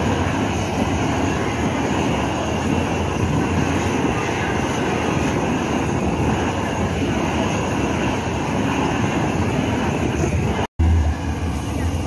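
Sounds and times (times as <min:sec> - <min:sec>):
blow torches rushing: 0:00.0 - 0:12.0.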